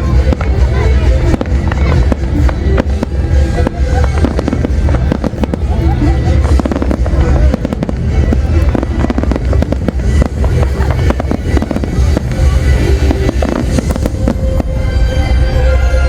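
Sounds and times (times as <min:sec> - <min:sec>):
fireworks bangs and crackles: 0:00.0 - 0:15.0
deep rumble: 0:00.0 - 0:16.0.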